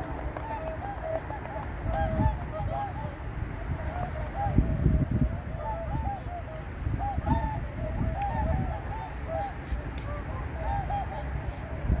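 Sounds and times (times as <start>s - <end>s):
swans honking: 0.0s - 12.0s.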